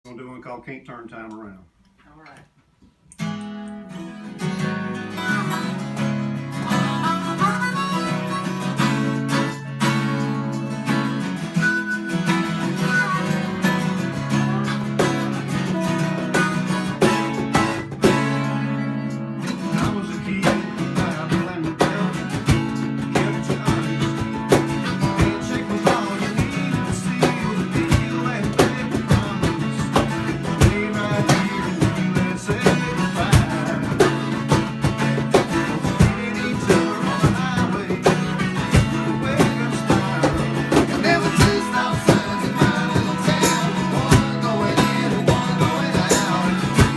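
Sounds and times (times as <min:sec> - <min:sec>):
acoustic guitar strumming: 0:03.2 - 0:46.9
band playing a steady beat: 0:06.6 - 0:10.5, 0:11.6 - 0:18.7, 0:19.5 - 0:46.9.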